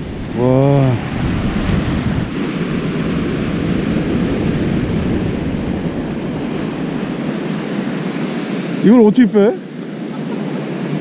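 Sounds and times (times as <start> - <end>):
wind buffeting microphone: 0.0 - 9.0
surf breaking on beach: 0.0 - 9.1.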